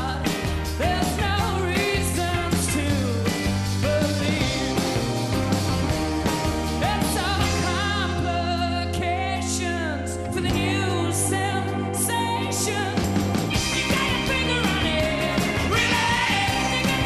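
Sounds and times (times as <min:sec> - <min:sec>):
male lead vocal: 0:00.0 - 0:05.2, 0:06.8 - 0:17.0
drums: 0:00.0 - 0:17.0
electric and acoustic guitars: 0:00.0 - 0:17.0.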